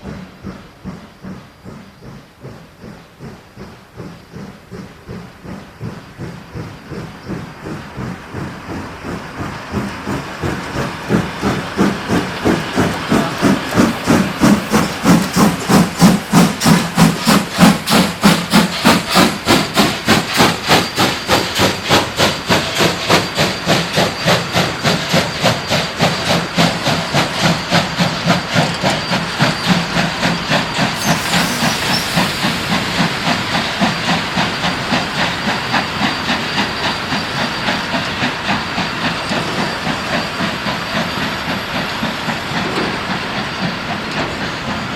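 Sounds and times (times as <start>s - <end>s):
steam hissing: 0.0s - 44.9s
steam locomotive chuffing: 0.0s - 44.9s.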